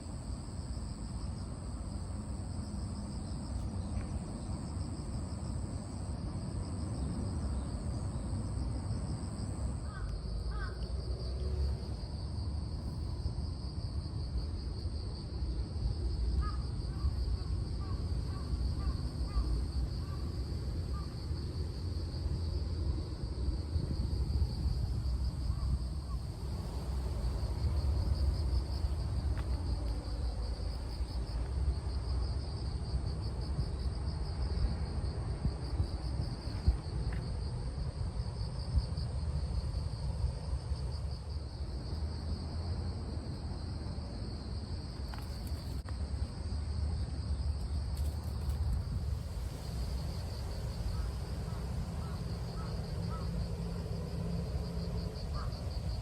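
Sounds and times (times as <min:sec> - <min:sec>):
insects chirping: 0:00.0 - 0:56.0
low continuous rumble: 0:00.0 - 0:56.0.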